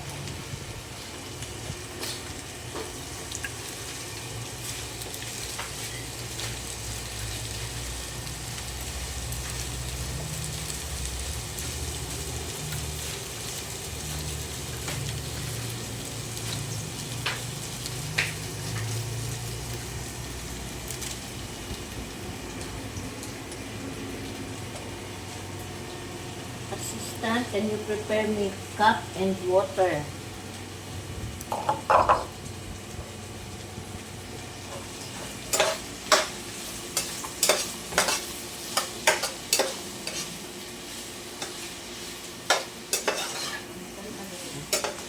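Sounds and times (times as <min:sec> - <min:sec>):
vegetables sizzling in a pan: 0:00.0 - 0:45.0.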